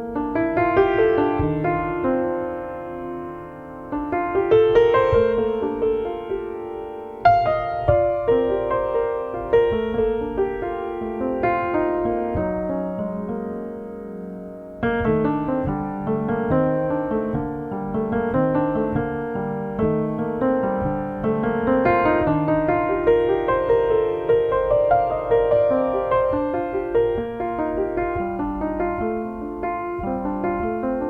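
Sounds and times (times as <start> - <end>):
solo piano: 0.0 - 31.0.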